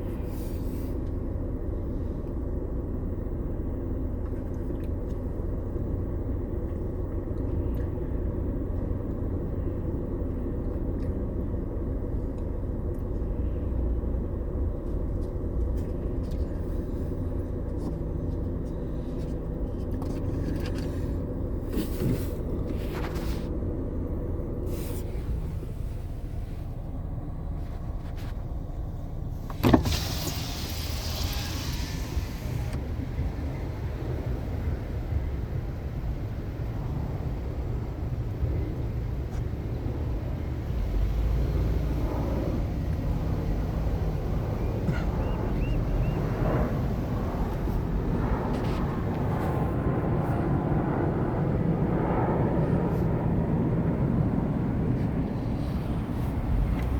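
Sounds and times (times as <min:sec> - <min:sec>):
car cabin rumble: 0:00.0 - 0:56.9.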